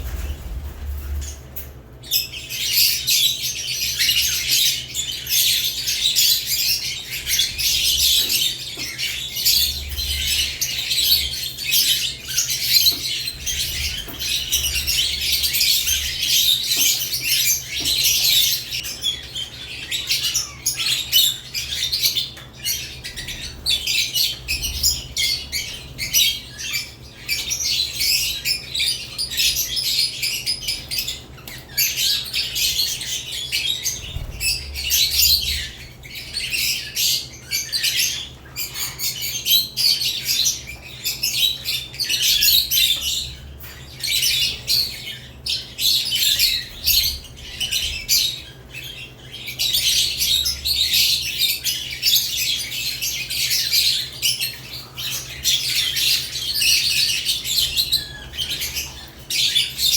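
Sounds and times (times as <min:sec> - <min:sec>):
lovebirds chirping and squawking: 0:00.0 - 0:59.9.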